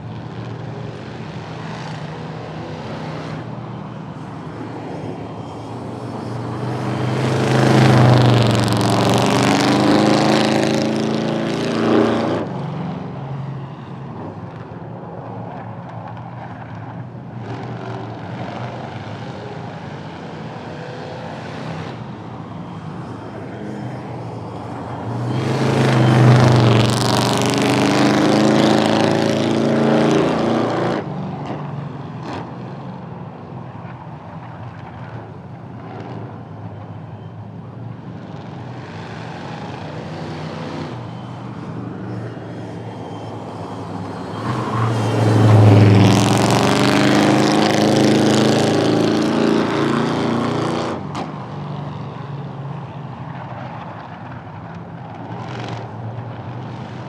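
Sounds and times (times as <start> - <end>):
drag-racing cars at full throttle: 0.0 - 57.0.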